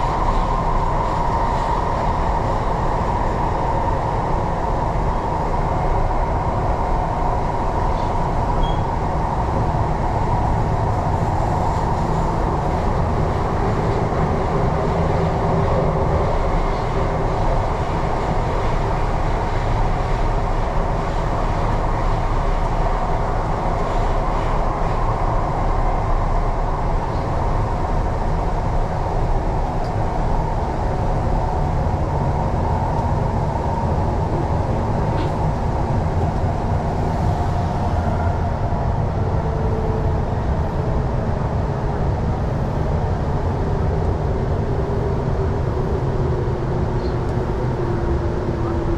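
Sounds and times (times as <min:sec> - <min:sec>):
electric train rumbling: 0:00.0 - 0:48.9.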